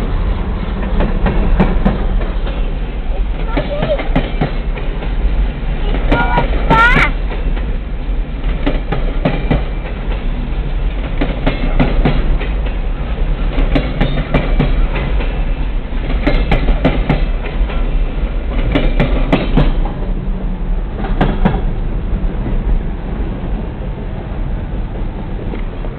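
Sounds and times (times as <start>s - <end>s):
train cars rumbling past: 0.0s - 25.9s.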